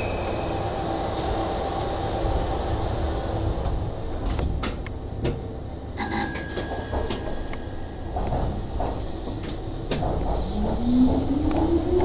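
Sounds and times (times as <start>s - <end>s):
train equipment hum: 0.0s - 12.0s.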